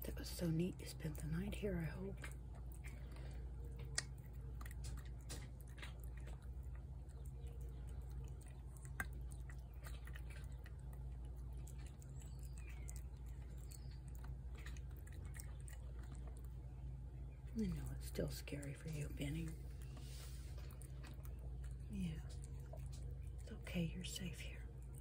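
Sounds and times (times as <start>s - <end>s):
steady low hum: 0.0s - 25.0s
cat chewing food: 0.2s - 25.0s.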